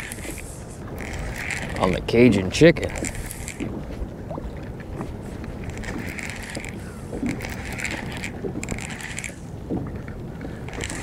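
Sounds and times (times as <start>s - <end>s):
waves slapping kayak hull: 0.0s - 11.0s.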